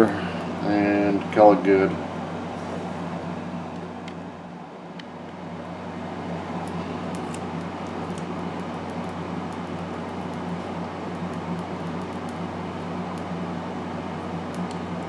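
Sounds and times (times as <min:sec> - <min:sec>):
mechanical room hum: 0:00.0 - 0:15.0.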